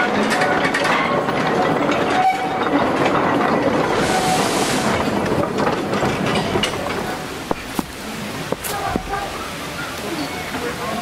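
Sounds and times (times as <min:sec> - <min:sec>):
freight wagons rolling on rails: 0:00.0 - 0:11.0.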